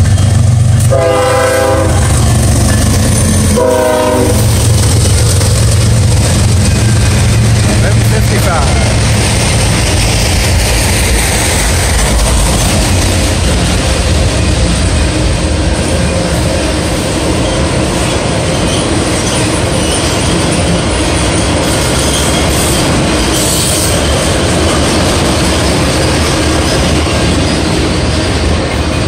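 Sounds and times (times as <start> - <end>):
steel wheels running on rails: 0.0 - 29.0.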